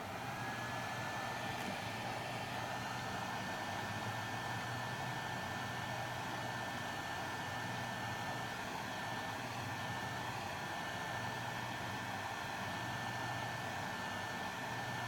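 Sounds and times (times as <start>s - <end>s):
hot-air blower whining: 0.0s - 15.0s.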